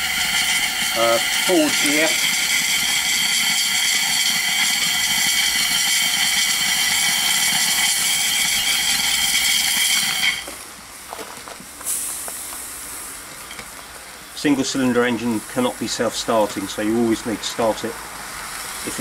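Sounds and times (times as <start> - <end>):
steam hissing: 0.0 - 11.1, 11.7 - 19.0.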